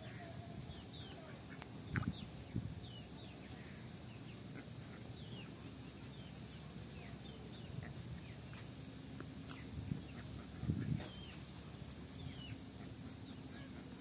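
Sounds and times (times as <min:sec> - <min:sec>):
low background rumble: 0:00.0 - 0:14.0
small birds chirping: 0:00.0 - 0:14.0.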